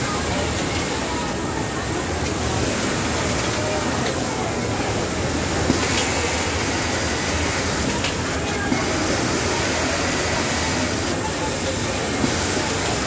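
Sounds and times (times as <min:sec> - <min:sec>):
industrial sewing machines whirring: 0:00.0 - 0:13.0.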